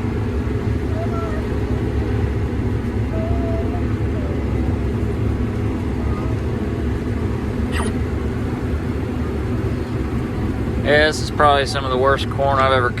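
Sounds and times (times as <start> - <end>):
combine harvester drone: 0.0 - 13.0.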